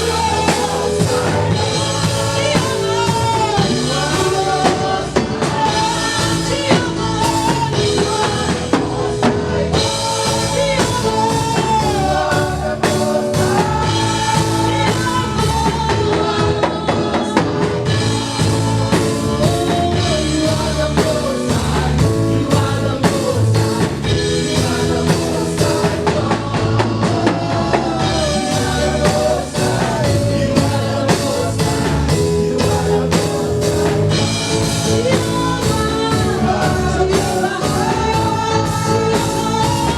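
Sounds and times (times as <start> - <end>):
band with drum kit: 0.0 - 39.9
gospel singing: 0.0 - 39.9.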